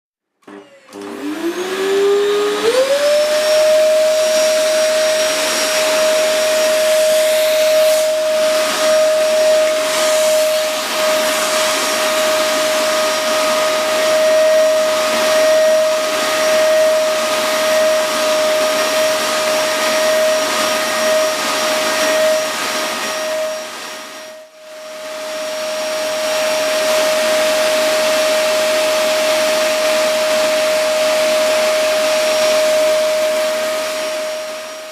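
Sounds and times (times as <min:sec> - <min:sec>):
vacuum cleaner running: 0:00.4 - 0:34.9.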